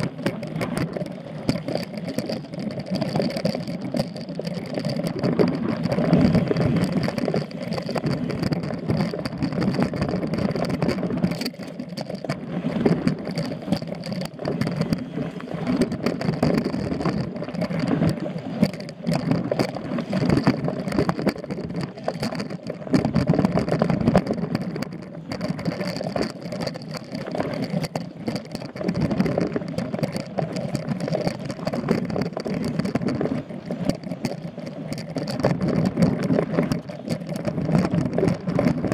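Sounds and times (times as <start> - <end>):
bike rattling over bumps: 0.0 - 38.9.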